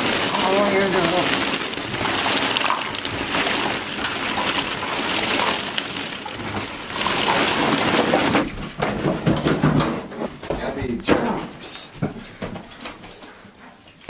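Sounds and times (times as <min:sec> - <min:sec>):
plastic balls clattering: 0:00.0 - 0:13.0.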